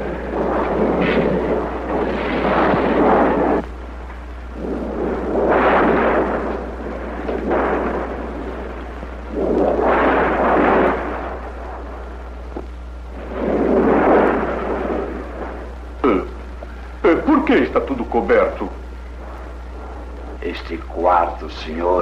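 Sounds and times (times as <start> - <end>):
wind gusts: 0.0 - 21.7
rain noise: 0.0 - 22.0
steady low hum: 0.0 - 22.0.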